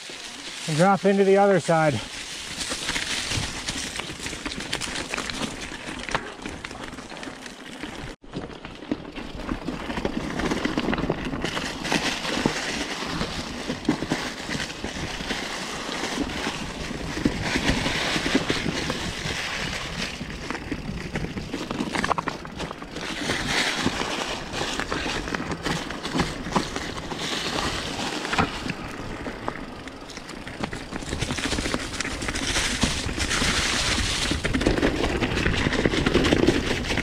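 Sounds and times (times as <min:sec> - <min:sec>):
bike clicks and rattles: 0:00.0 - 0:37.0
bike tyres rushing on dirt: 0:00.0 - 0:37.0.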